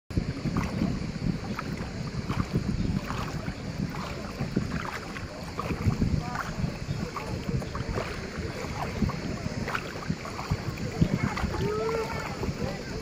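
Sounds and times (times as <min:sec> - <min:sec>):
shallow water splashing: 0:00.1 - 0:13.0
wind rumbling on microphone: 0:00.1 - 0:13.0.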